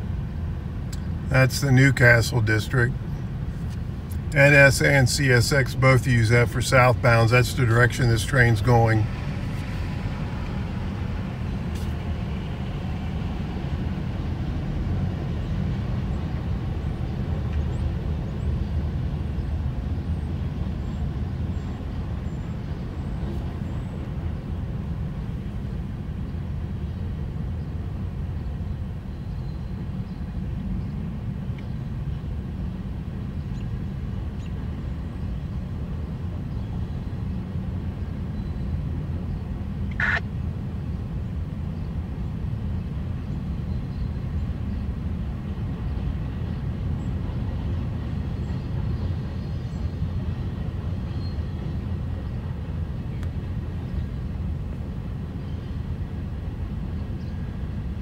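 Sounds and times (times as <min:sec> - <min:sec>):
freight train rumbling: 0:00.0 - 0:39.8, 0:40.4 - 0:58.0.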